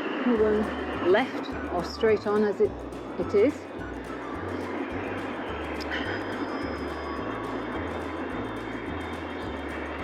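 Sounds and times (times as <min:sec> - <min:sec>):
wind and tyres rushing: 0:00.0 - 0:10.0
bass line of background music: 0:00.4 - 0:10.0.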